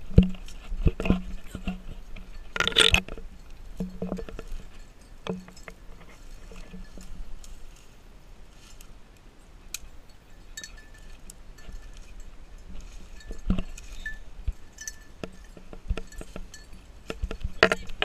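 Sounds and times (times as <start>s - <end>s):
footsteps through dry grass: 0.0s - 9.2s, 9.9s - 18.0s.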